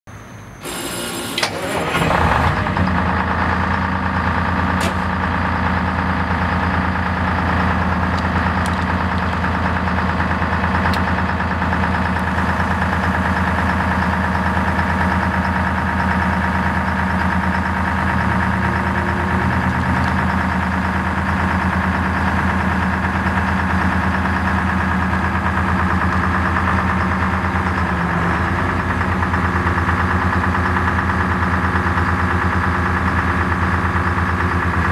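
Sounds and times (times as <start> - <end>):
engine cranking and idling: 0.6 - 34.9.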